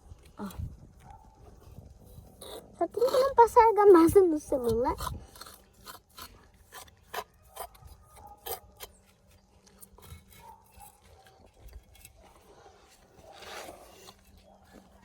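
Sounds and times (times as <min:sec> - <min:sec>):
trowel scraping mortar on bricks: 0:01.4 - 0:15.0.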